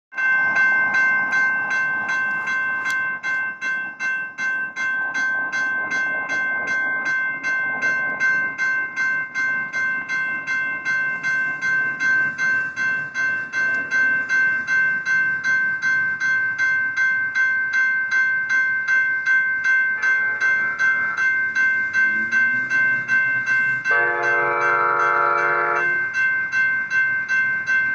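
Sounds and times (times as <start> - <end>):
railroad crossing bell ringing: 0.1 - 27.9.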